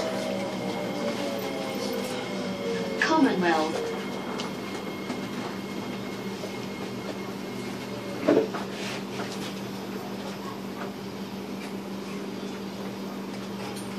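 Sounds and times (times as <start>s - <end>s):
train electrical hum: 0.0s - 13.9s.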